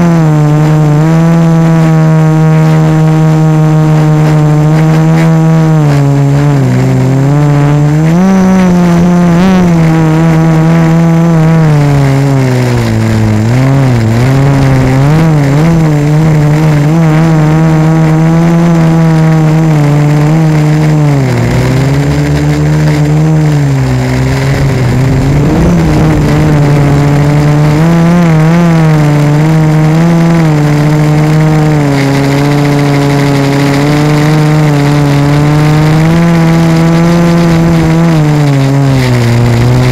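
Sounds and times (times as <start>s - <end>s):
drone motors buzzing whine: 0.0s - 39.9s
rough rushing noise: 0.0s - 39.9s.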